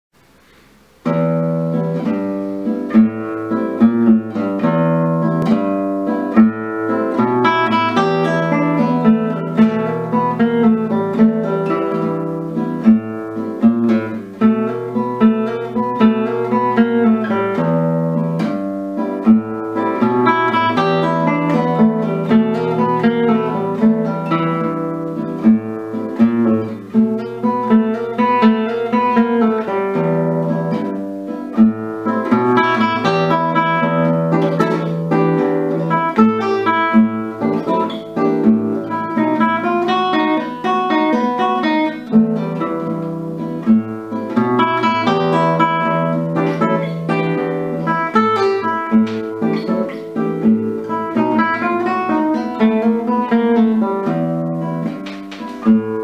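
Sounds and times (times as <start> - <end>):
classical guitar blues piece: 0.2 - 56.0.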